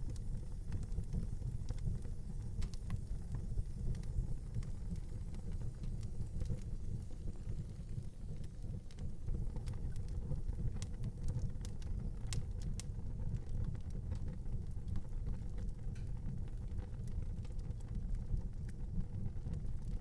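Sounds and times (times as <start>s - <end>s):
low fire rumble: 0.0s - 20.0s
wood fire crackling and popping: 0.0s - 20.0s.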